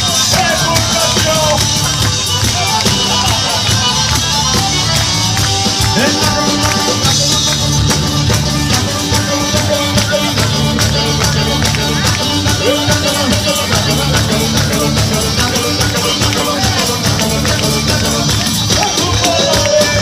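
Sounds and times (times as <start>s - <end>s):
instrumental folk dance music: 0.0s - 20.0s.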